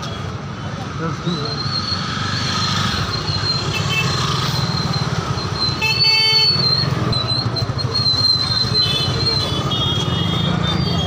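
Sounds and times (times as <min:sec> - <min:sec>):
busy street traffic: 0:00.0 - 0:11.0.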